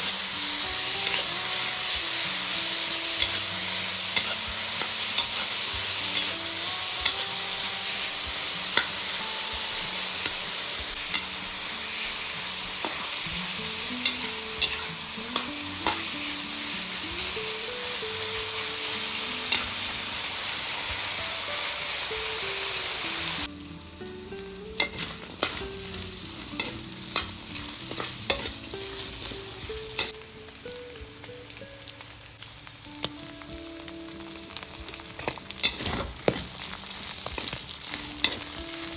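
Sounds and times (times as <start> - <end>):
meat sizzling in a pan: 0.0 - 38.9.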